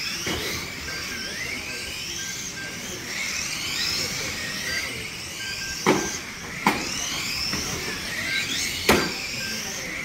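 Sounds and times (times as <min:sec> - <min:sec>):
rc car motors whining: 0:00.0 - 0:10.0.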